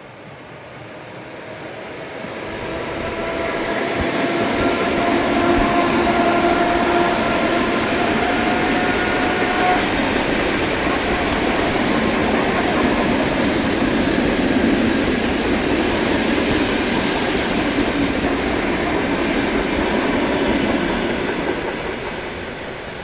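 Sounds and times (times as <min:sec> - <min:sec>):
electric train passing: 0:00.0 - 0:23.0
train whining tones: 0:00.3 - 0:23.0.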